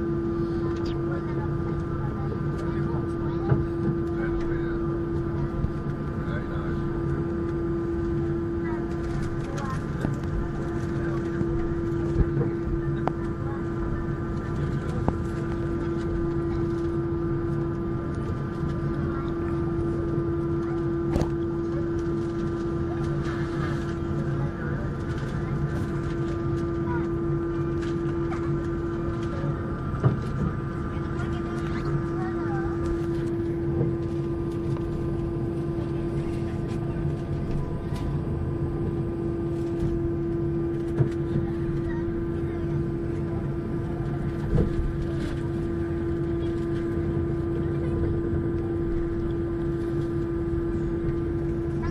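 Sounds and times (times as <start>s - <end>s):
airliner cabin engine hum: 0.0s - 51.9s
higher engine whine: 0.0s - 51.9s.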